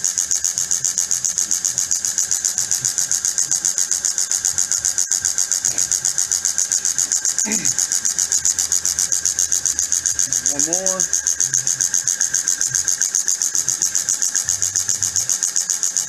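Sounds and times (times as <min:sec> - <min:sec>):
rhythmic high-pitched machine hiss: 0:00.0 - 0:16.0.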